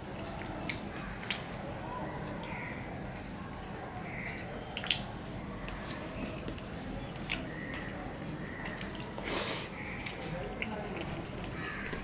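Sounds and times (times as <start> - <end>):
man chewing food wetly: 0.0 - 12.0.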